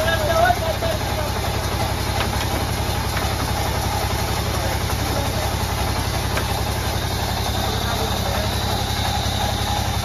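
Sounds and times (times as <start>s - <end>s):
band saw cutting log: 0.0s - 10.0s
low machine rumble: 0.0s - 10.0s.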